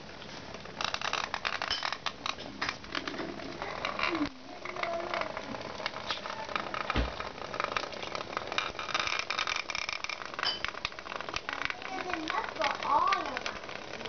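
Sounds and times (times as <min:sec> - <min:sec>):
toy robots buzzing and rattling: 0:00.5 - 0:14.0
toys clicking against plastic walls: 0:00.8 - 0:14.0.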